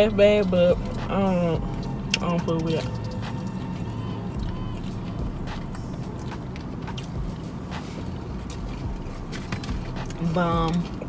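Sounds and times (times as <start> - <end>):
car engine idling: 0.0 - 11.0
clicks and rustles from eating: 1.8 - 11.0.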